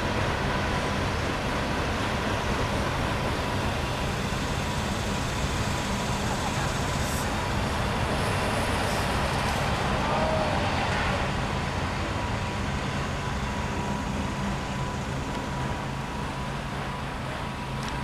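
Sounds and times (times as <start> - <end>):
diesel engine drone: 0.0 - 18.0
freight train rumbling past: 0.0 - 18.0
thin steady whine: 0.0 - 18.0.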